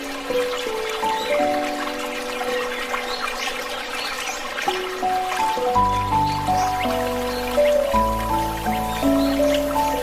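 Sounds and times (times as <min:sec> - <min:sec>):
quiet background music: 0:00.0 - 0:10.0
water splashing and trickling: 0:00.0 - 0:10.0.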